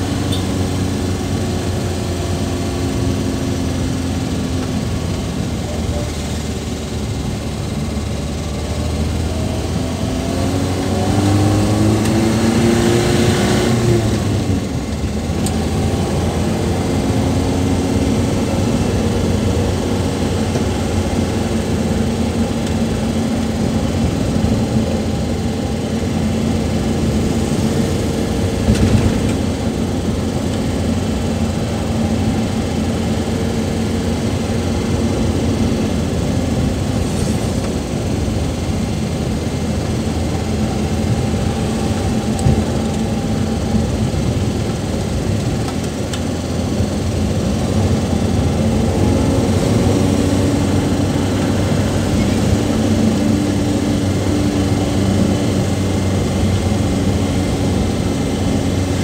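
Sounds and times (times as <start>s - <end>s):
car engine accelerating: 0.0s - 59.0s
road noise: 0.0s - 59.0s.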